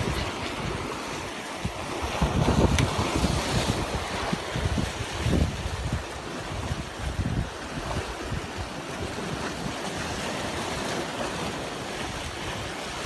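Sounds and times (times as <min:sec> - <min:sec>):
sea waves splashing over rocks: 0:00.0 - 0:13.0
wind buffeting microphone: 0:00.0 - 0:13.0.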